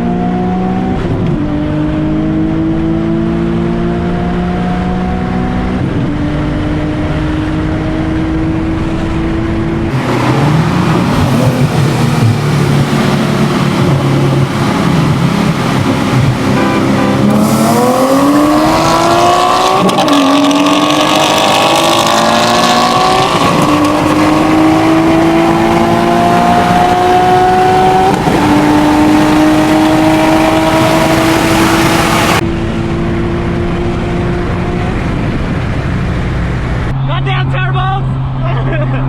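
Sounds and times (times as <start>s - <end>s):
car engine accelerating hard: 0.0s - 36.9s.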